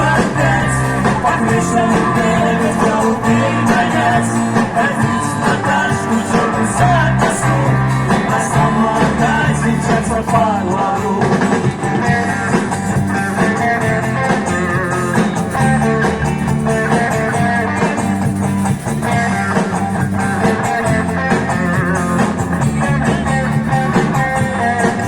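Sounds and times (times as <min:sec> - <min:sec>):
drum kit beat: 0:00.0 - 0:25.0
lead guitar: 0:00.0 - 0:25.0
live pop-rock band playing: 0:00.0 - 0:25.0.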